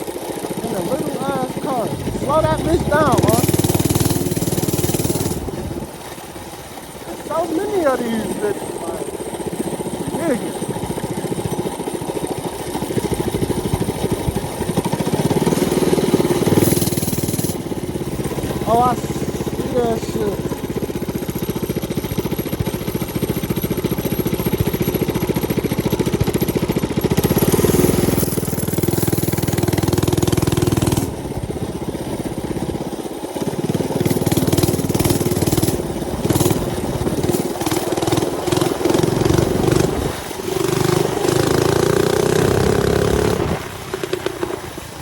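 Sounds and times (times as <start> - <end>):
mini bike engine running: 0.0 - 45.0.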